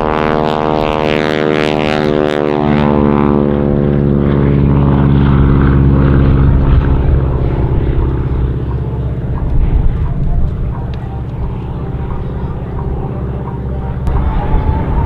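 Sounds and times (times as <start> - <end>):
biplane engine droning: 0.0 - 15.0.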